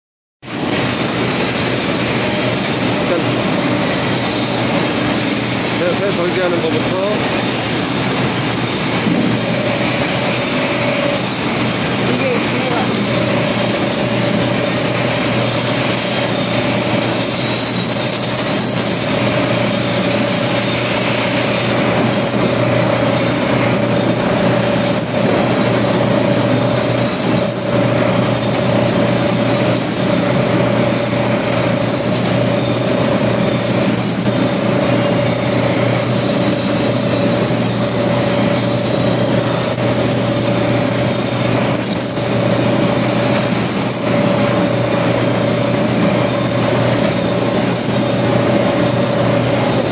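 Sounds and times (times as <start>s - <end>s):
cutting machine whine: 0.4s - 49.9s.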